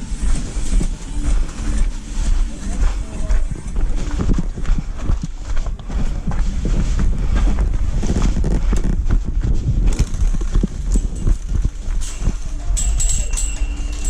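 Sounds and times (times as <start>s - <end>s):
quick footsteps on ground: 0.0s - 14.0s
wind rumbling on microphone: 0.0s - 14.0s.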